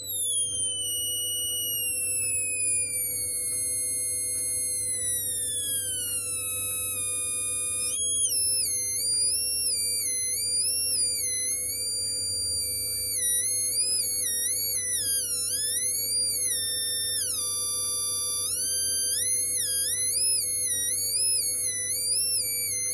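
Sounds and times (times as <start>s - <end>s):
high-pitched electronic buzzer tone: 0.0s - 22.9s.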